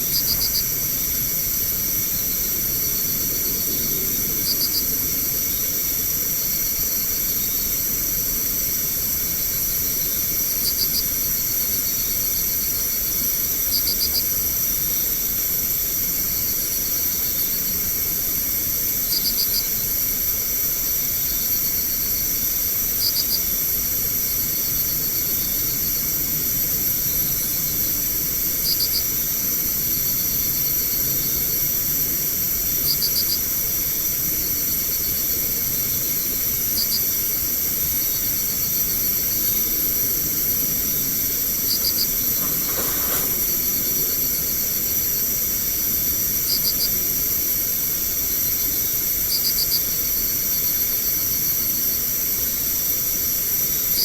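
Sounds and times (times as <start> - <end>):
cricket chirping: 0.0 - 54.0
insects trilling: 0.0 - 54.0
steady hiss: 4.4 - 49.2.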